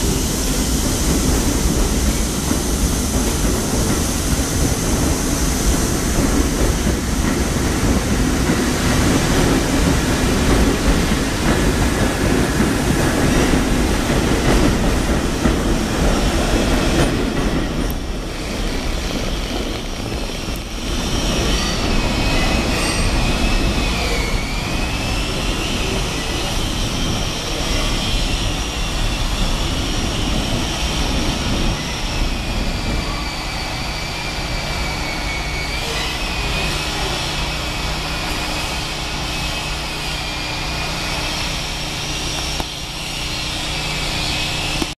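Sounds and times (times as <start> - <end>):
train wheels squealing: 0.0 - 44.9
train rumble: 0.0 - 45.0.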